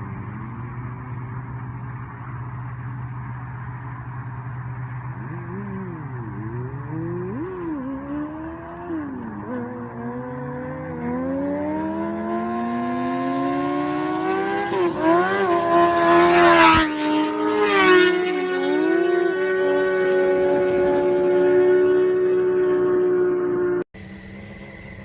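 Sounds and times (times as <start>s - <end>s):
vehicle engine accelerating: 0.0s - 25.0s.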